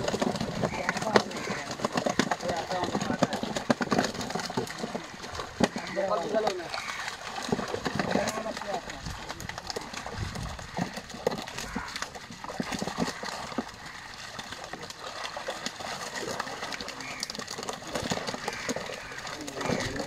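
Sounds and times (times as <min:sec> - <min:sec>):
fish flapping against net: 0:00.0 - 0:20.0
water splashing and dripping: 0:00.0 - 0:20.0.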